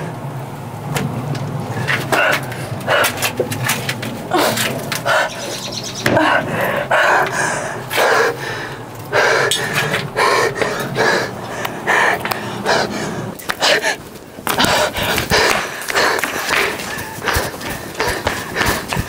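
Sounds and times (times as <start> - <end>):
steady low hum: 0.0 - 19.0
woman panting heavily: 1.7 - 3.4, 4.2 - 19.0.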